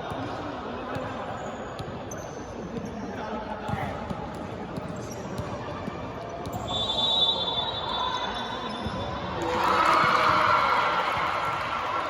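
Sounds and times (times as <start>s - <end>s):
players and spectators voices: 0.0s - 12.0s.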